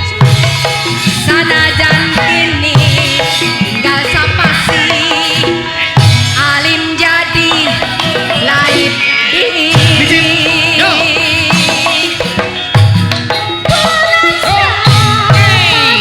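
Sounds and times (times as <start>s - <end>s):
gamelan music: 0.0s - 16.0s
hand drum beats: 0.0s - 16.0s.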